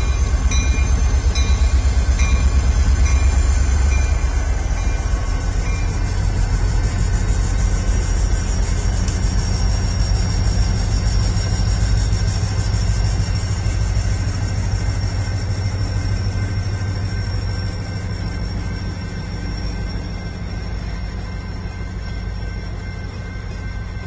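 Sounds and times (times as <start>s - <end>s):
diesel locomotives running past: 0.0s - 24.0s.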